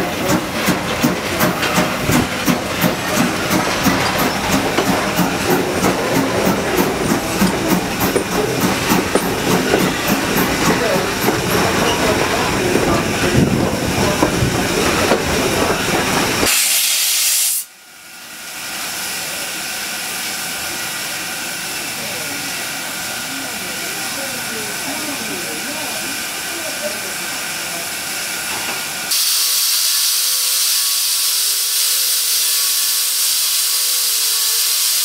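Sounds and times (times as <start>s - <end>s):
steam locomotive clattering: 0.0s - 17.6s, 18.6s - 35.0s
steam hissing: 0.0s - 35.0s.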